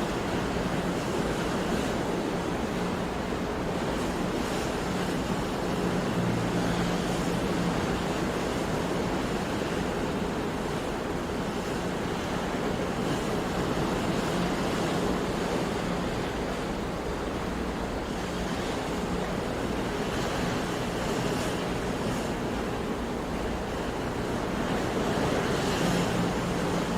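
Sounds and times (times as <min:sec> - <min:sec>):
ocean waves breaking on shore: 0:00.0 - 0:26.9.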